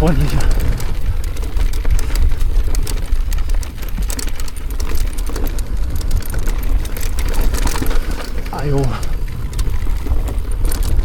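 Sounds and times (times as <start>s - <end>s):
bike clicks and rattles: 0.0s - 11.0s
wind rumble on microphone: 0.0s - 11.0s.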